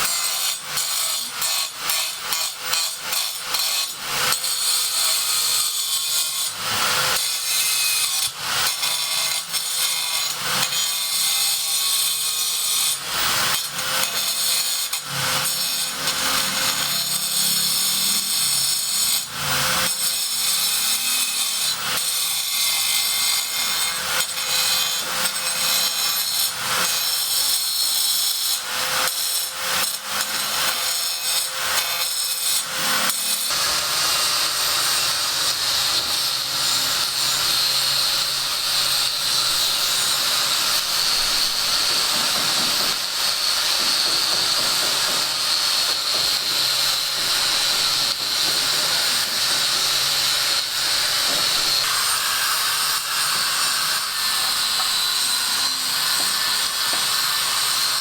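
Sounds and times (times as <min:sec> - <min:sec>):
power tool high whine: 0:00.0 - 0:58.0
power tool rasping cutting: 0:00.0 - 0:58.0.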